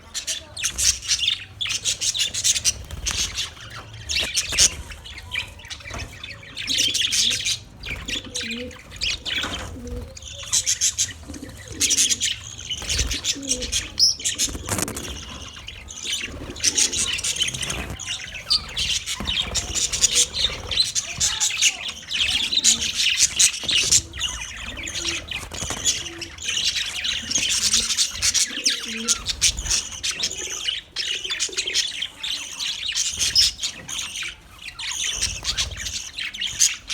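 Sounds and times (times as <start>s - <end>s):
budgerigars chattering and chirping: 0.0s - 36.9s.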